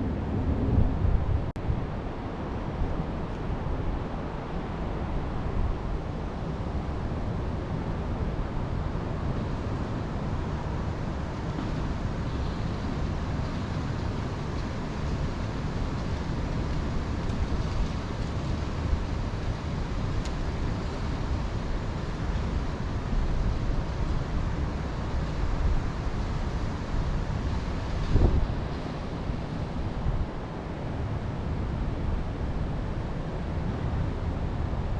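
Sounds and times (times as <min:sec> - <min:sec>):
wind blowing through trees: 0:00.0 - 0:34.9
wind rumbling on microphone: 0:00.0 - 0:34.9.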